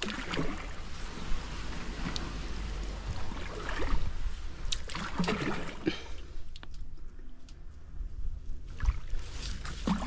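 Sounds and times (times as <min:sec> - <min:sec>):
water splashing and sloshing: 0:00.0 - 0:07.5, 0:08.5 - 0:10.0
steady low rumble: 0:00.1 - 0:09.8.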